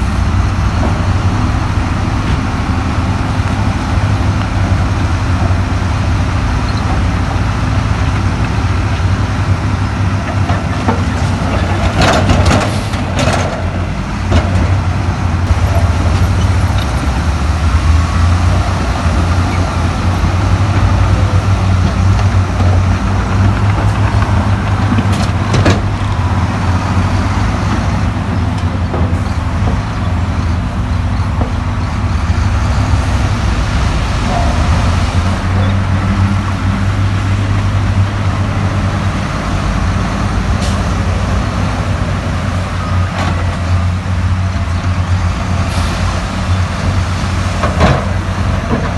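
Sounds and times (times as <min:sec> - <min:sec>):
diesel machinery droning: 0:00.0 - 0:48.9.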